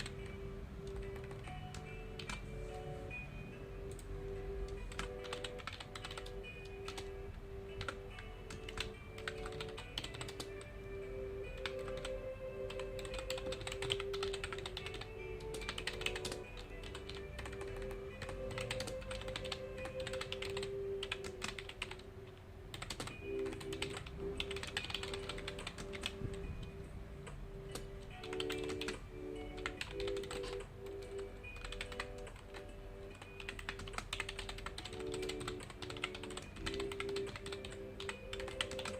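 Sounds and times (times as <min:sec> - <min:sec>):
computer keyboard typing: 0:00.0 - 0:02.8, 0:03.8 - 0:38.9
soft background music: 0:00.0 - 0:38.9.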